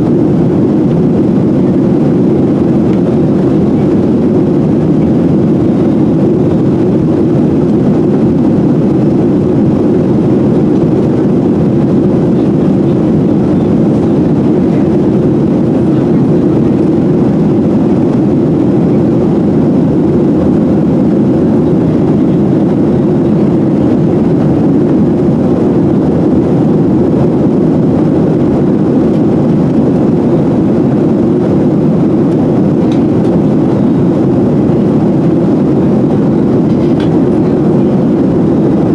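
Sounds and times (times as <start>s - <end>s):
airliner cabin engine roar: 0.0s - 38.9s.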